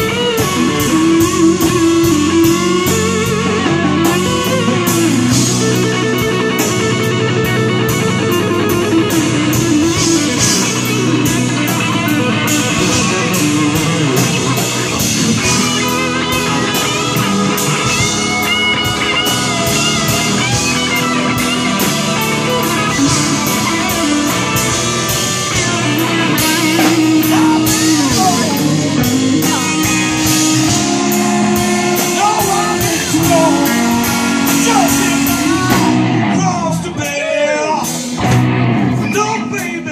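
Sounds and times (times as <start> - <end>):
bass guitar: 0.0 - 39.9
drum kit beat: 0.0 - 39.9
electric guitar lead: 0.0 - 39.9
keyboards: 0.0 - 39.9.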